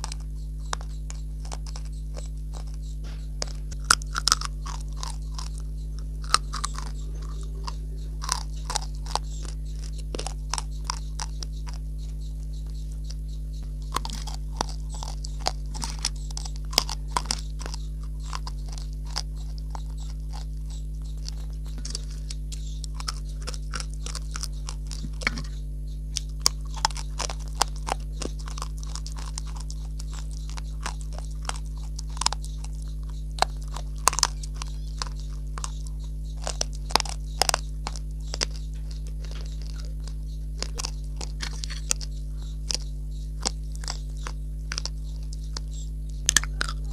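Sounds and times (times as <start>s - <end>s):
crunching and chewing clay: 0.0s - 46.9s
steady low hum: 0.0s - 46.9s.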